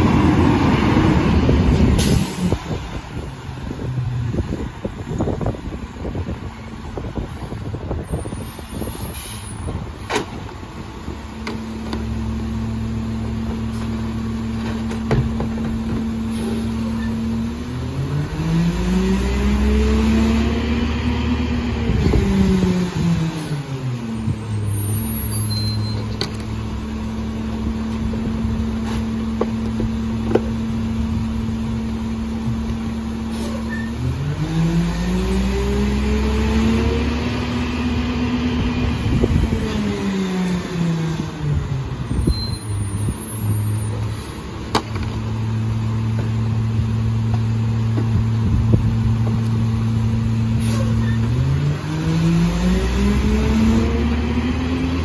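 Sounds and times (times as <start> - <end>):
truck engine idling and revving: 0.0 - 55.0.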